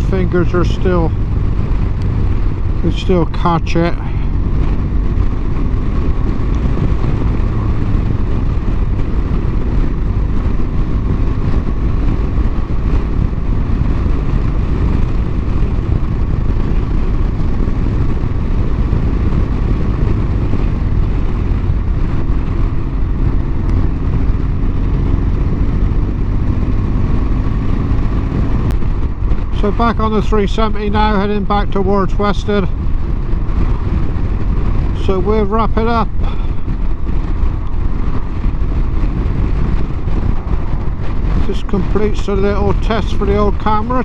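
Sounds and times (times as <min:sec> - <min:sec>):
motorcycle engine droning: 0:00.0 - 0:44.0
tyres on road: 0:00.0 - 0:44.0
wind rushing on microphone: 0:00.0 - 0:44.0.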